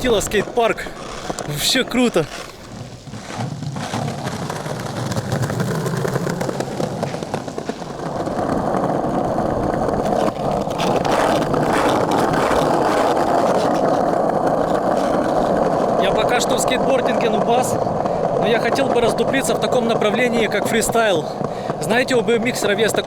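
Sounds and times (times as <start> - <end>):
skateboard wheels rolling on pavement: 0.0 - 23.0.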